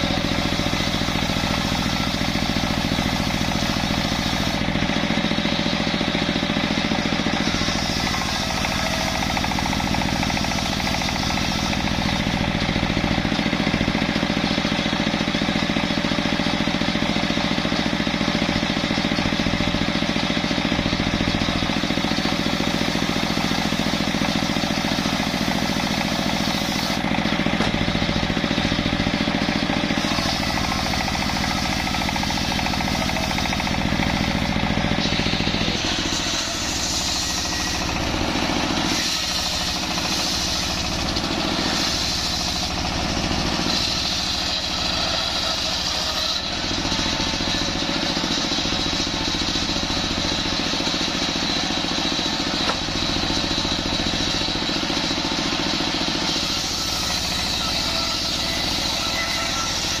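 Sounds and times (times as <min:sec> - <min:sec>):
circular saw cutting wood: 0:00.0 - 1:00.0
diesel engine pounding: 0:00.0 - 1:00.0.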